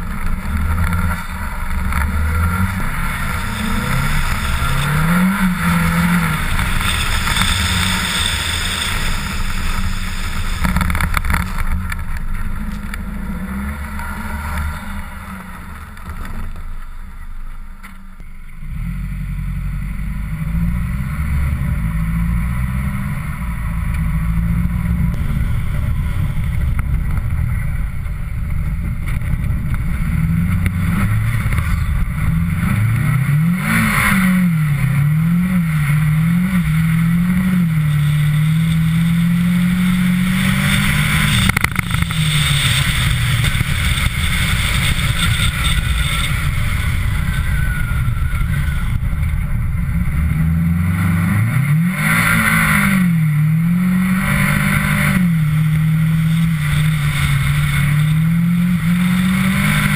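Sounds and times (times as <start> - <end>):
car engine at speed: 0.0 - 59.9.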